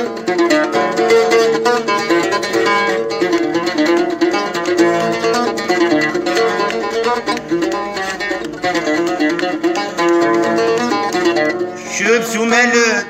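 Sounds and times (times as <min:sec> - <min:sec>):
plucked lute playing quick notes: 0:00.0 - 0:13.0.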